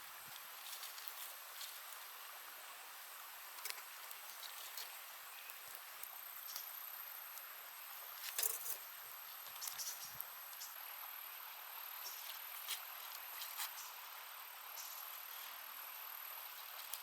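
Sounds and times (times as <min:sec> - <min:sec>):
rustles: 0:00.0 - 0:10.8, 0:11.9 - 0:17.0
faint forest ambience: 0:00.0 - 0:17.0.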